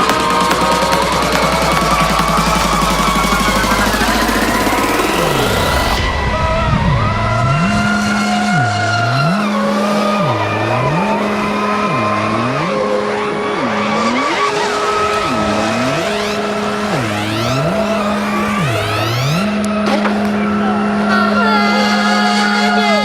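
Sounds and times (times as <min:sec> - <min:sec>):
electronic music with sliding bass: 0:00.0 - 0:23.0
rising synth sweeps: 0:00.0 - 0:23.0.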